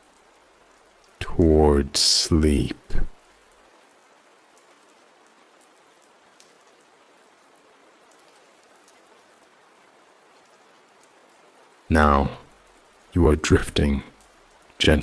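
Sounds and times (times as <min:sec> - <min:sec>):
faint soft rain: 0:00.0 - 0:15.0.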